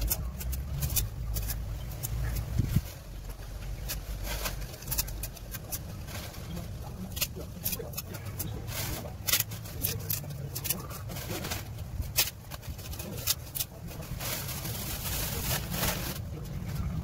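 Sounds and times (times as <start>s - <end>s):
dry leaves crackling: 0.0s - 17.0s
plastic bag rustling: 0.0s - 17.0s.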